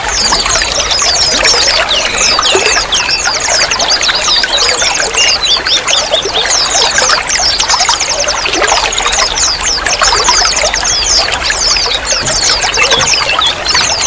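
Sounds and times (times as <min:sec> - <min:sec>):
water flowing and babbling: 0:00.0 - 0:14.0.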